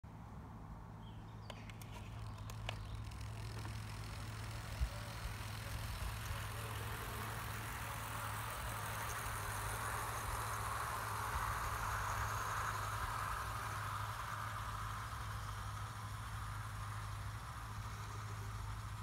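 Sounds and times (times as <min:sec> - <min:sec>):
steady low hum: 0:00.1 - 0:19.0
model train wheels on rails: 0:01.4 - 0:19.0.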